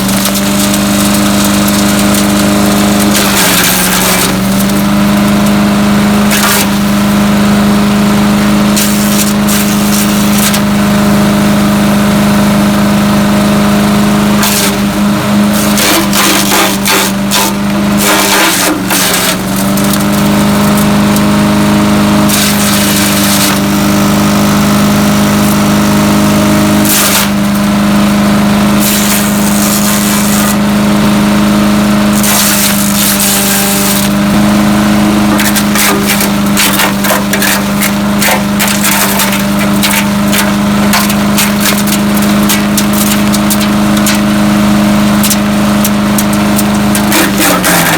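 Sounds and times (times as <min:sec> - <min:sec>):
wood chipper engine running: 0:00.0 - 0:47.9
wood crunching and splintering: 0:00.0 - 0:47.9.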